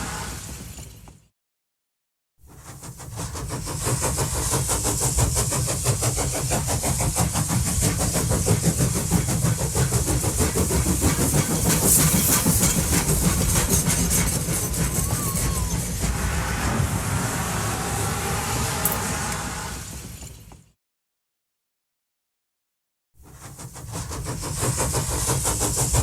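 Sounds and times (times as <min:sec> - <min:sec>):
train running: 0:00.0 - 0:01.3, 0:02.4 - 0:20.8, 0:23.2 - 0:26.0.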